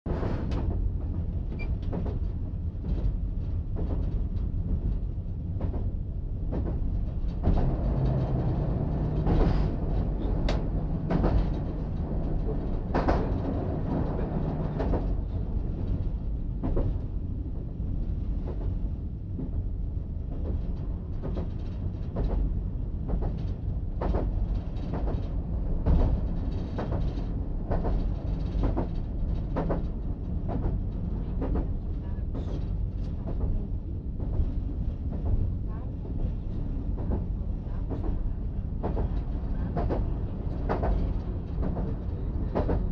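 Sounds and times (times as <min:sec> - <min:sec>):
train engine low rumble: 0:00.1 - 0:42.9.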